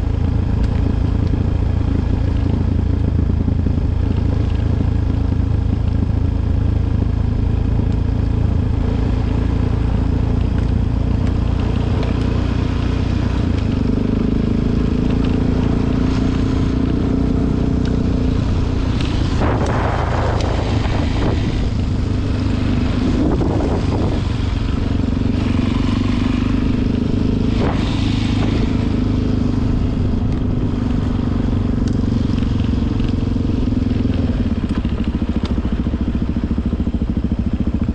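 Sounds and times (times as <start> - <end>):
heavy low rumble: 0.0 - 35.9
motorcycle engine running: 0.0 - 37.9.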